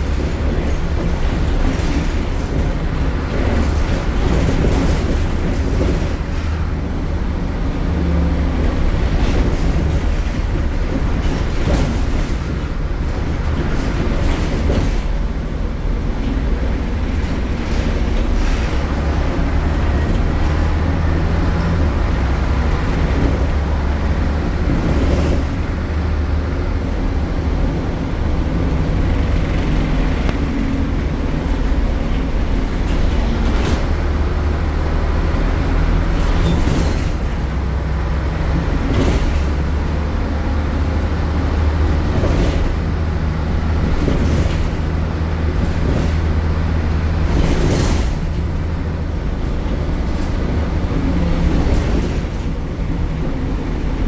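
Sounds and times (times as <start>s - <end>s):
bus engine droning: 0.0s - 54.0s
sharp knocks and rattles: 0.0s - 54.0s.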